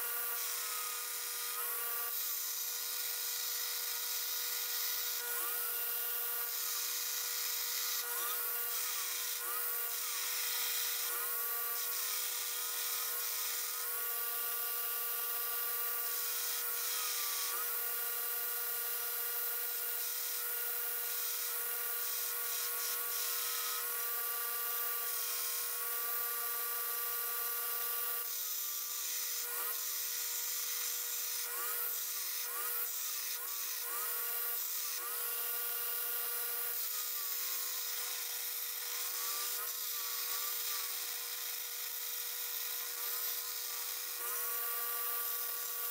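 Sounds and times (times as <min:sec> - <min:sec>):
belt grinder motor whine: 0:00.0 - 0:45.9.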